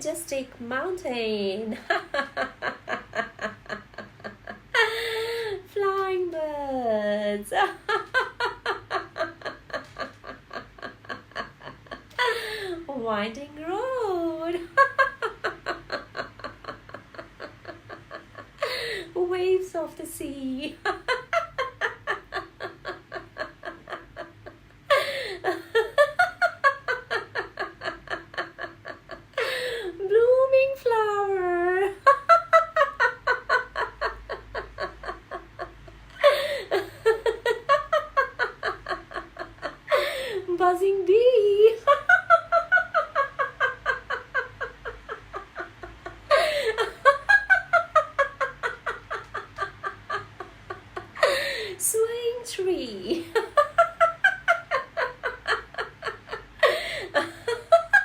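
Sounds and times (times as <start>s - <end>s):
woman laughing in pulses: 1.8s - 5.6s, 7.6s - 12.8s, 14.6s - 19.2s, 20.8s - 29.9s, 31.4s - 40.5s, 41.4s - 51.8s, 53.1s - 58.0s.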